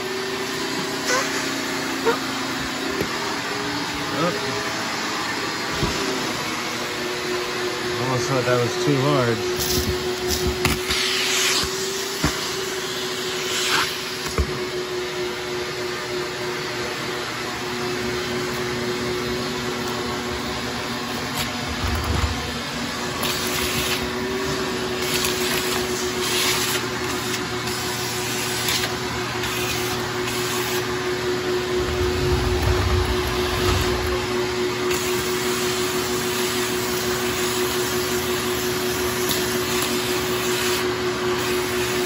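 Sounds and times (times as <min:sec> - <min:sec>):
vacuum cleaner motor whining: 0:00.0 - 0:42.0.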